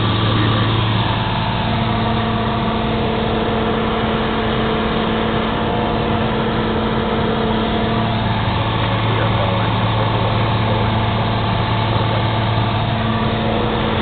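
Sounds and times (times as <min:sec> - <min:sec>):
airplane engine and propeller droning: 0:00.0 - 0:14.0.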